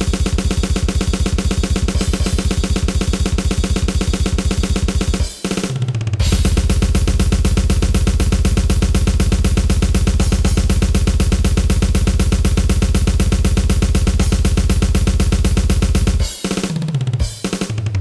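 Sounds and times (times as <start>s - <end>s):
fast electronic drum solo: 0.0s - 18.0s.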